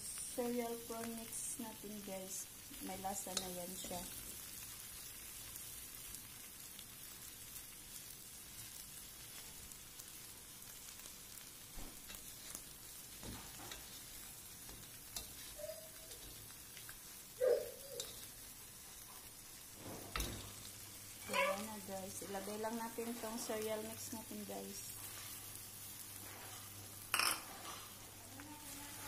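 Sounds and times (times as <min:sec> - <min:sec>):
prawns sizzling in butter: 0:00.0 - 0:29.0.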